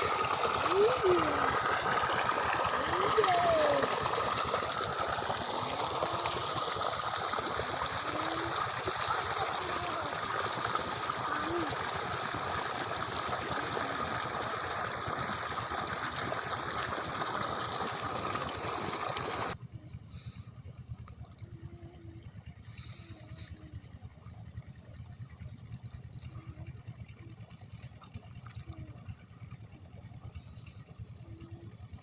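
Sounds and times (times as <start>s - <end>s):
water pouring from pipe: 0.0s - 19.6s, 22.6s - 32.0s.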